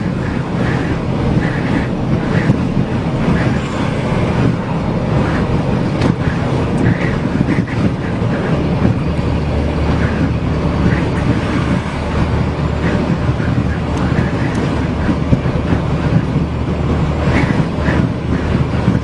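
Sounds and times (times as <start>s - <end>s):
strong wind rumble: 0.0s - 19.0s
vehicle noise: 0.0s - 19.0s.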